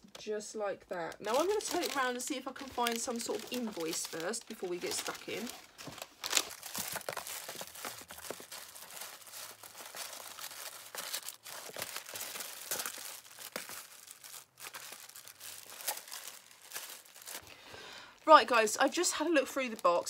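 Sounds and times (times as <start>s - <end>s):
packaging rustling and crinkling: 1.1s - 17.6s.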